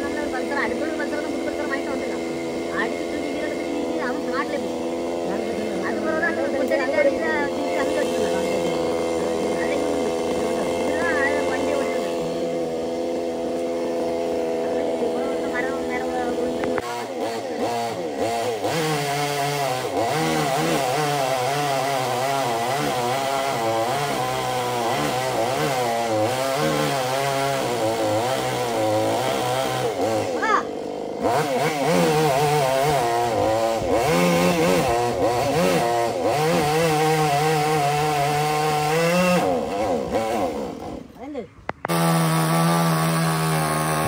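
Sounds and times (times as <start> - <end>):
chainsaw cutting wood: 0.0 - 44.0.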